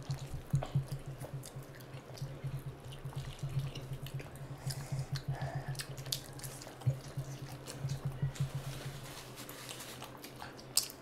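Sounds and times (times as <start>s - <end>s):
wet chewing and lip-smacking: 0.0s - 8.8s, 9.5s - 11.0s.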